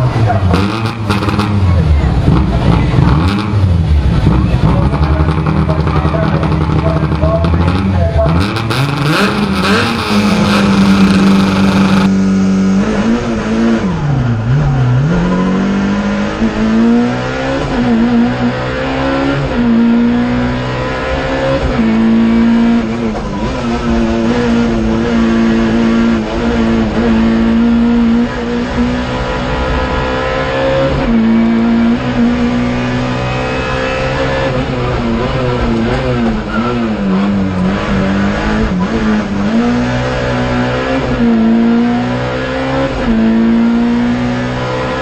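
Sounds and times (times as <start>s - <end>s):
racing car engine at full throttle: 0.0s - 45.0s.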